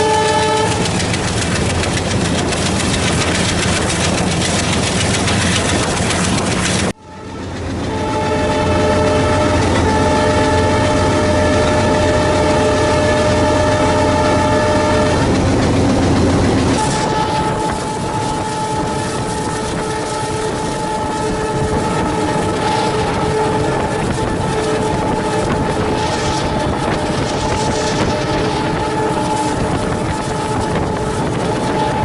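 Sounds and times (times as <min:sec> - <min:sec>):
locomotive horn blasts: 0:00.0 - 0:01.6, 0:06.8 - 0:32.0
engine and train rumble: 0:00.0 - 0:32.0.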